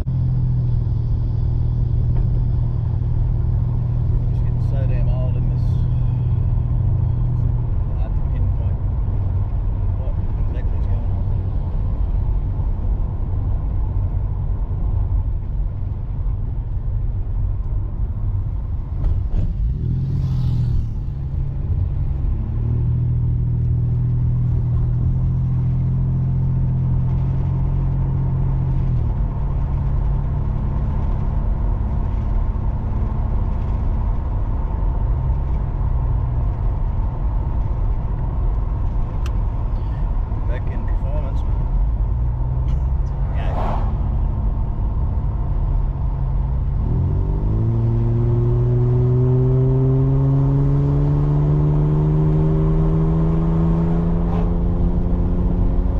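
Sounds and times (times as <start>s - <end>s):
car exhaust rumble: 0.0s - 55.9s.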